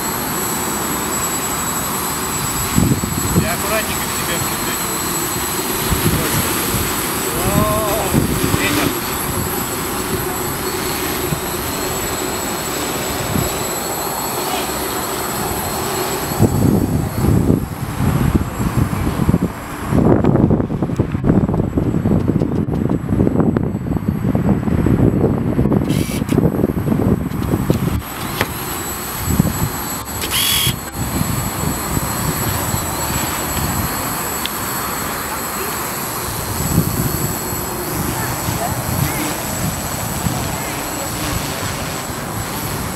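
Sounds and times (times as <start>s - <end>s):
drone propellers buzzing: 0.0s - 42.9s
wind gusts on microphone: 1.8s - 42.9s.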